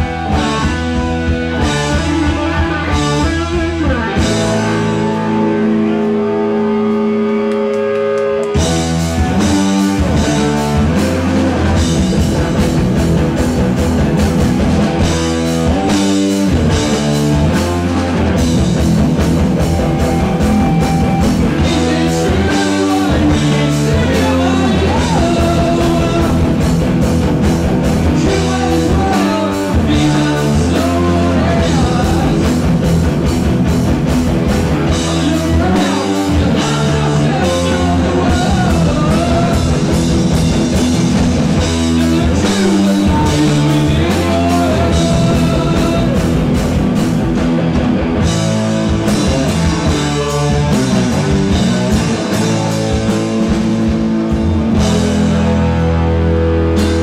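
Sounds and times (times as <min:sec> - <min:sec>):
steady drum beat: 0:00.0 - 0:05.5, 0:08.4 - 0:57.0
heavy metal band playing live: 0:00.0 - 0:57.0.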